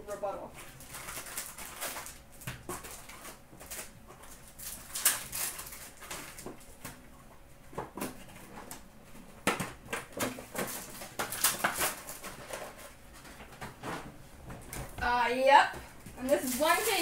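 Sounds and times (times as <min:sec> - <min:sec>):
foil packs rustling and crinkling: 0:00.2 - 0:07.1, 0:07.7 - 0:17.0.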